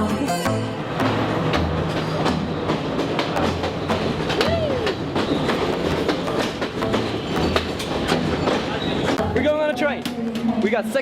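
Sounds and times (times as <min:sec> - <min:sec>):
train wheels clattering on rails: 0:00.8 - 0:11.0.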